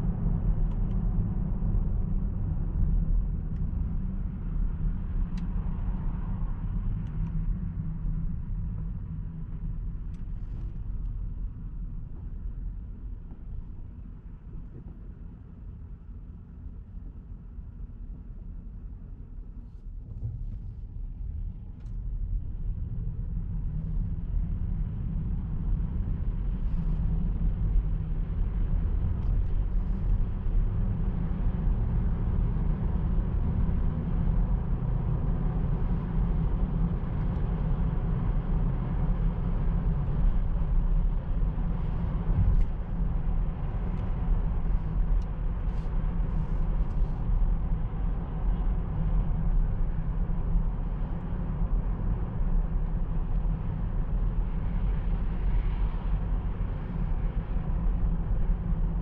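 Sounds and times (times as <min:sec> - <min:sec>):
road and tyre rumble: 0:00.0 - 0:59.0.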